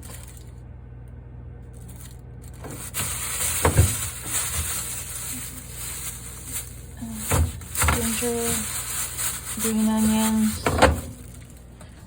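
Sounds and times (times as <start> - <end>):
food containers rustling: 0.0 - 0.6, 1.7 - 12.0
steady low hum: 0.0 - 12.0.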